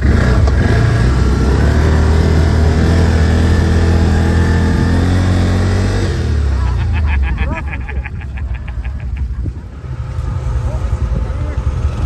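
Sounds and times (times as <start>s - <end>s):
quad bike engine revving: 0.0s - 8.2s, 9.1s - 12.0s.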